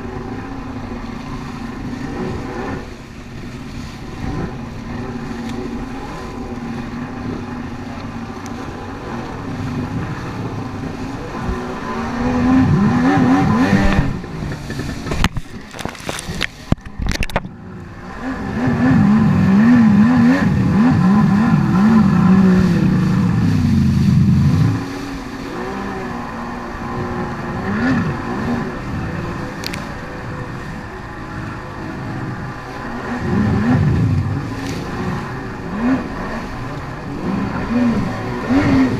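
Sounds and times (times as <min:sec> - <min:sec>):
watercraft engine revving: 0:00.0 - 0:38.9.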